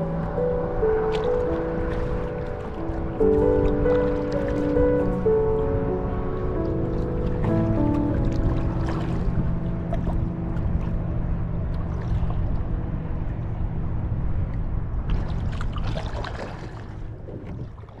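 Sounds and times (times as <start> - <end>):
water lapping against hull: 0.0 - 18.0.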